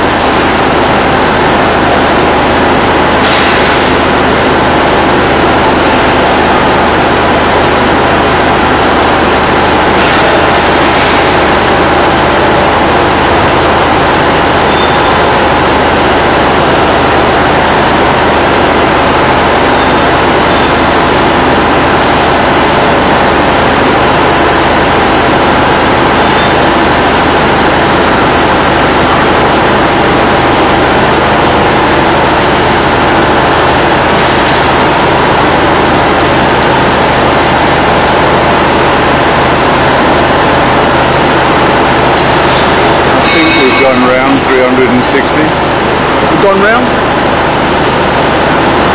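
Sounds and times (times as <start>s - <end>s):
heavy industrial machinery drone: 0.0s - 48.9s.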